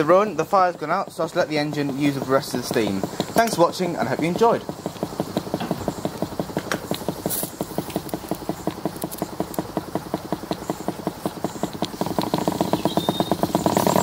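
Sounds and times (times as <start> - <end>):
steam engine exhaust chuffs: 0.0 - 14.0.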